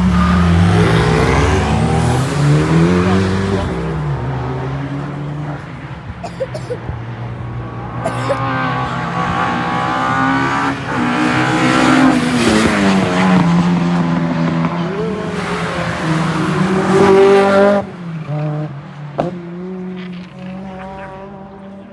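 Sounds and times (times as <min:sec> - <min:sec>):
car engine revving hard: 0:00.0 - 0:05.8, 0:07.7 - 0:21.9.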